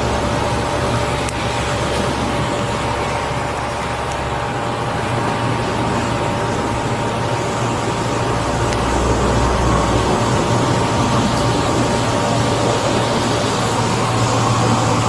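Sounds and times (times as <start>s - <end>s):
vehicle idling hum and hiss: 0.0s - 15.0s.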